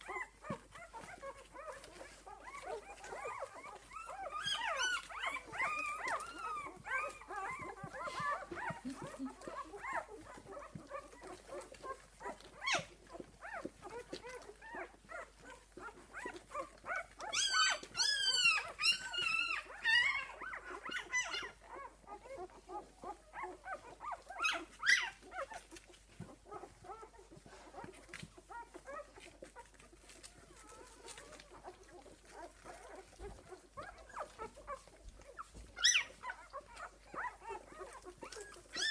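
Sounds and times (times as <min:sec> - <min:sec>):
puppies squeaking and whimpering: 0:00.0 - 0:38.9.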